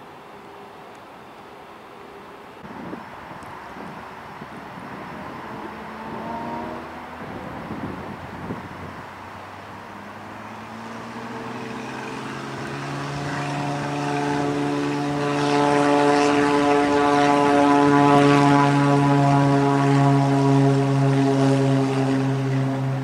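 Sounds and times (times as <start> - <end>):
propeller plane engine droning: 0.0 - 23.0.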